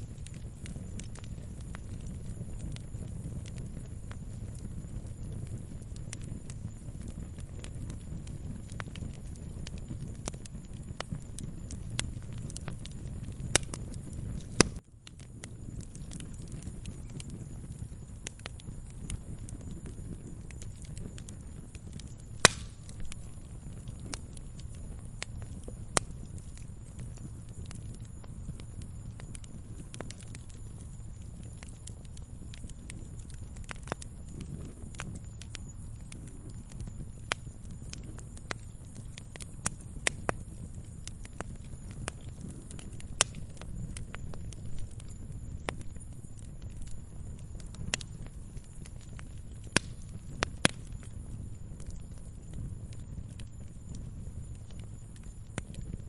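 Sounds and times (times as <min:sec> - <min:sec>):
sharp pops of fire: 0:00.0 - 0:56.0
wood fire crackling: 0:00.0 - 0:56.0.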